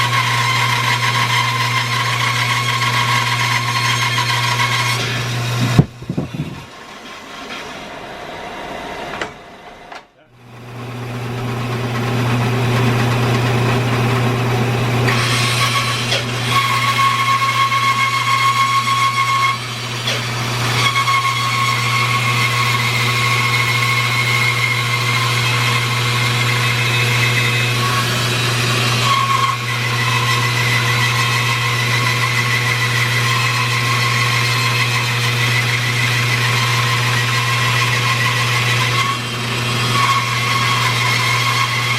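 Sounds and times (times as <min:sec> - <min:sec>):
bandsaw cutting wood: 0:00.0 - 0:41.9.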